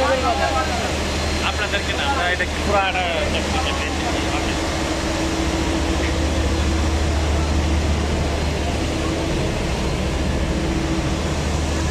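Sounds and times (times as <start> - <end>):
boat engine humming: 0.0 - 11.9
rushing noise: 0.0 - 11.9.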